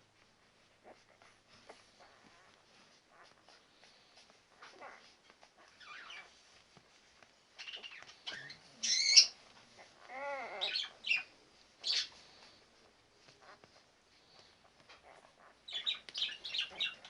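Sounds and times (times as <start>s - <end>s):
puppies squeaking and whimpering: 0.2s - 17.0s.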